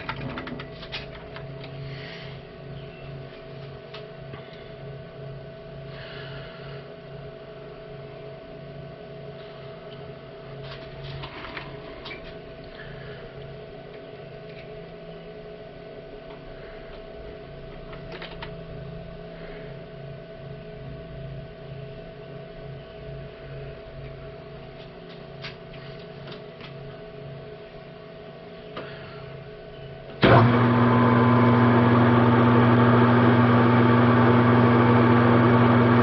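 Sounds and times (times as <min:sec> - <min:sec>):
machine hum pulsing: 0:00.0 - 0:36.0.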